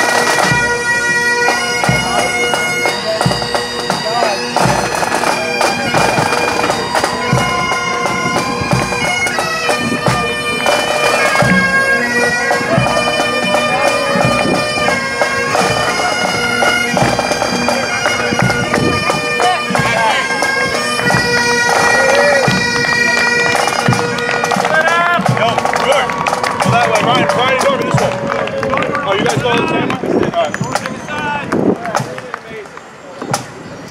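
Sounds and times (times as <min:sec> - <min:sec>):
bagpipes playing a tune: 0:00.0 - 0:32.1.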